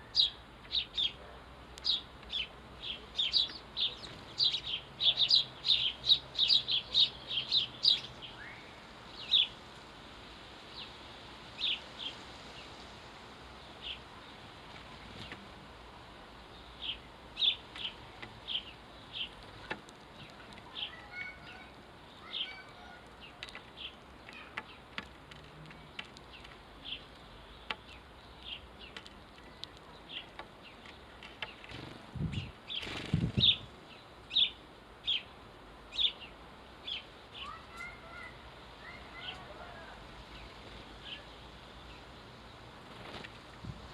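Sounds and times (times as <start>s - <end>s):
sparrows chirping: 0.0s - 9.7s, 10.3s - 43.9s.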